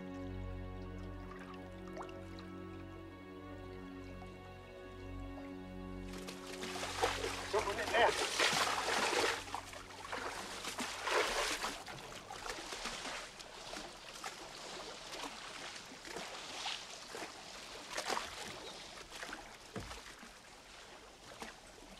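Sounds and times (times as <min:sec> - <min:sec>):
water lapping around a boat: 0:00.2 - 0:03.8, 0:05.3 - 0:21.9.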